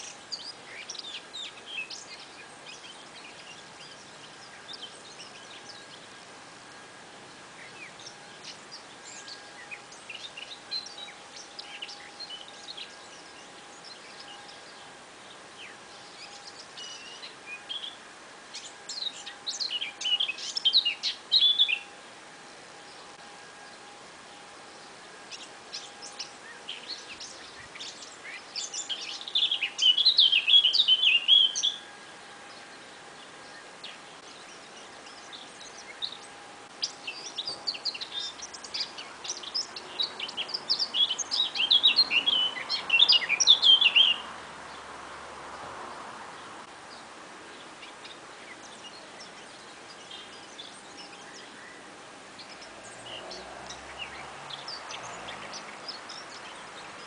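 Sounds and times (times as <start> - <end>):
songbird twittering: 0.0 - 22.0, 24.6 - 44.9, 46.3 - 57.0.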